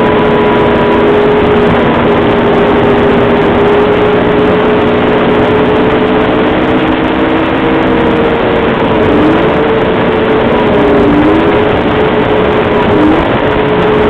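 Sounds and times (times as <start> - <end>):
snowmobile engines droning: 0.0 - 14.0
snowmobile passing close: 0.0 - 14.0
wind and track noise: 0.0 - 14.0.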